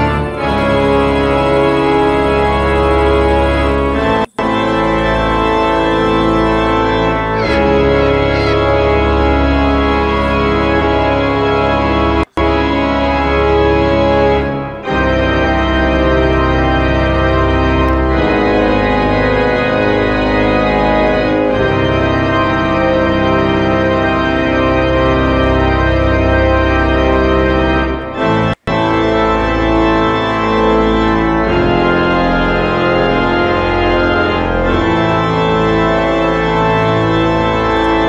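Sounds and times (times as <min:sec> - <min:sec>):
organ chords: 0:00.0 - 0:38.0.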